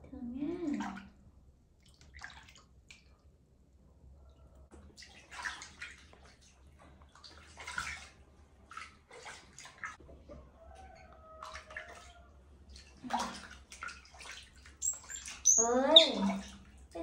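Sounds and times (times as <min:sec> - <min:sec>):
water sloshing in plastic basin: 0:00.4 - 0:01.2, 0:01.8 - 0:03.3, 0:04.7 - 0:17.0.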